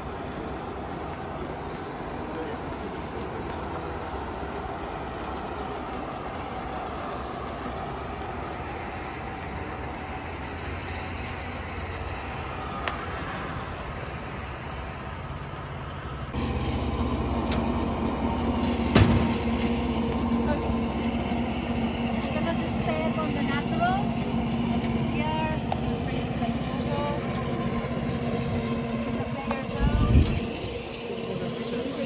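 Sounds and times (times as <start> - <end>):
low rumbling outdoor noise: 0.0 - 32.0.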